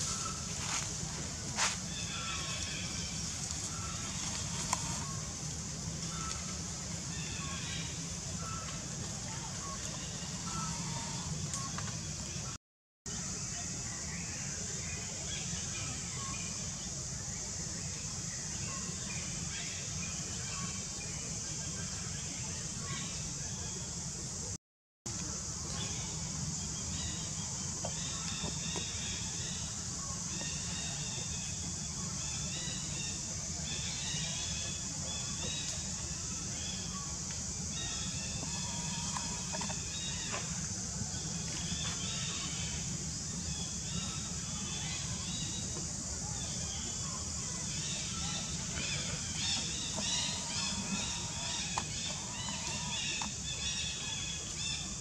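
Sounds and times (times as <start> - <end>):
high-pitched hiss: 0.0 - 12.5, 13.1 - 55.0.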